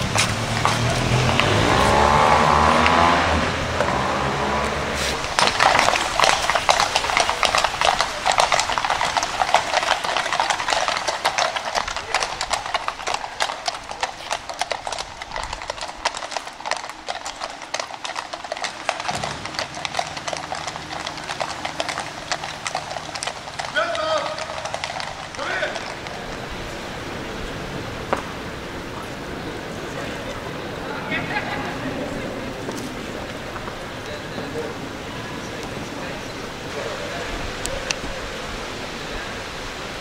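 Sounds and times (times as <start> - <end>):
horses' hooves clip-clopping: 0.0 - 40.0.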